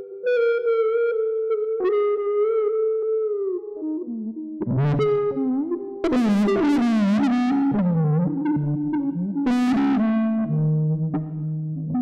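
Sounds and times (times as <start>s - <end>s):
synth-like electric guitar notes: 0.0s - 12.0s.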